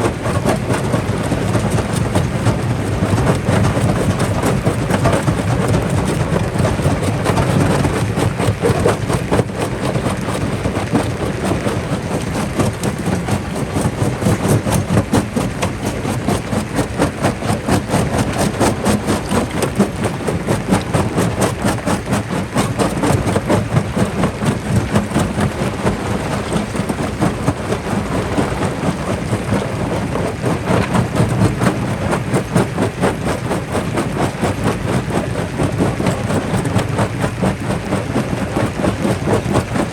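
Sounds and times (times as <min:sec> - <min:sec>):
low machine hum: 0:00.0 - 0:39.9.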